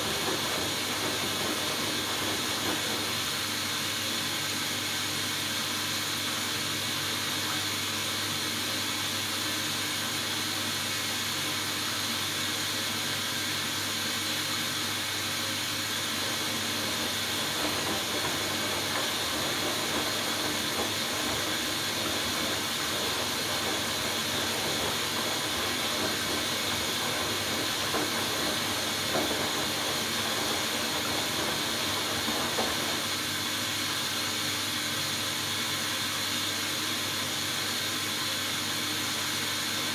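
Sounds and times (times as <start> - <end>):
washing machine water hiss: 0.0 - 39.9.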